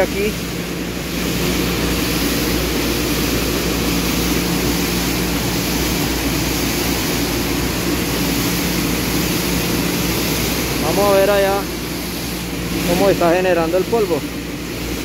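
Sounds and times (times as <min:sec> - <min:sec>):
conveyor machinery hum: 0:00.0 - 0:15.0.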